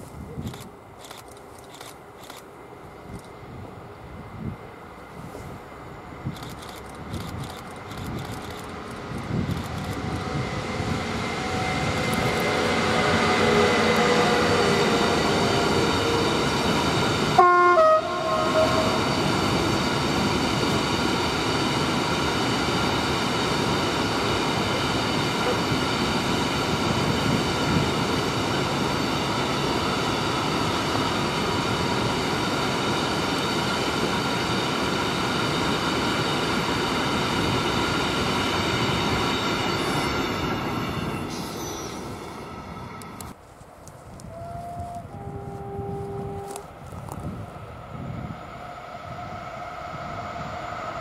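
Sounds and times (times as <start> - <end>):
train wheels on rail joints: 0.0 - 51.0.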